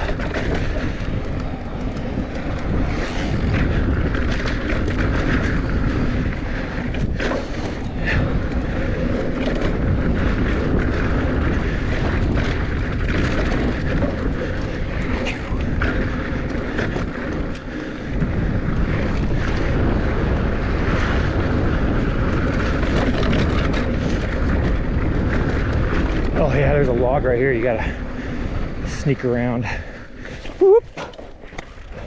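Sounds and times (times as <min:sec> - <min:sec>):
bike rattling over bumps: 0:00.0 - 0:32.0
bike tyres rolling over dirt: 0:00.0 - 0:32.0
wind over microphone: 0:00.0 - 0:32.0.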